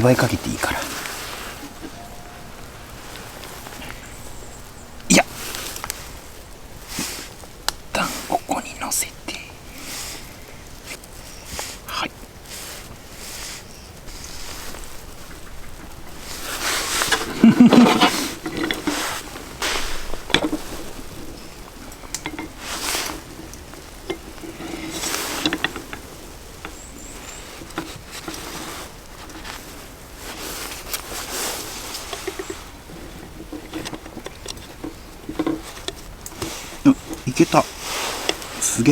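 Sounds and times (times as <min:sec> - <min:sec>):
hands rustling and scraping: 0:00.0 - 0:38.9.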